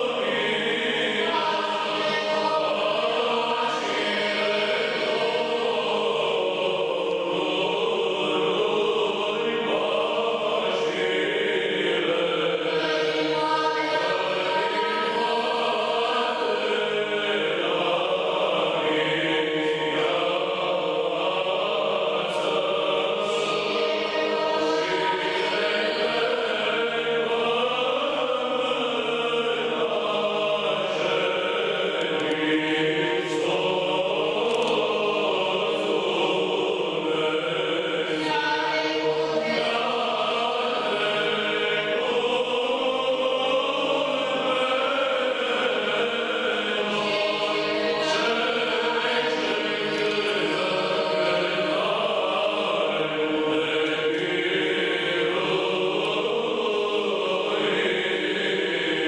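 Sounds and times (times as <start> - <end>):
choir singing a chant: 0.0 - 59.0.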